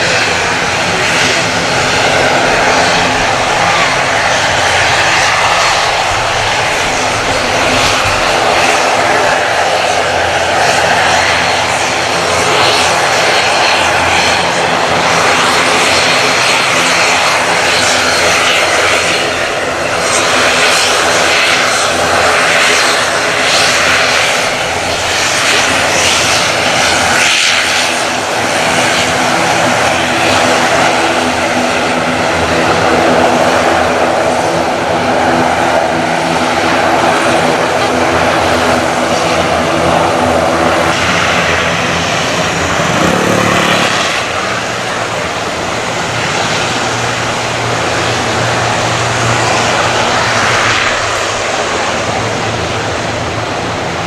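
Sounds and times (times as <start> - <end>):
propeller droning hum: 0.0 - 54.0
turboprop engines roaring: 0.0 - 54.0.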